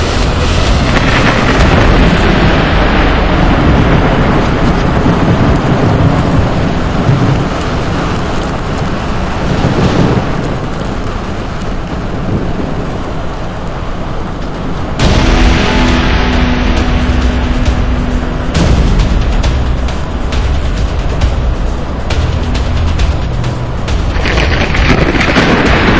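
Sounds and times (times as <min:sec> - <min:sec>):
heavy rain: 0:00.0 - 0:25.9
thunder rumble: 0:00.0 - 0:25.9.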